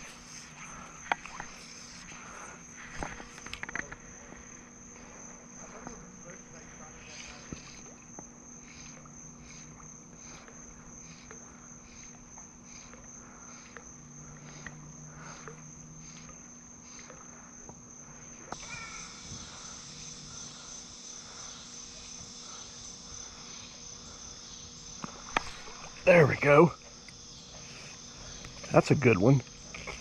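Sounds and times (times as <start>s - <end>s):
insect buzzing chorus: 0.0s - 30.0s
insects trilling and chirping: 0.0s - 30.0s.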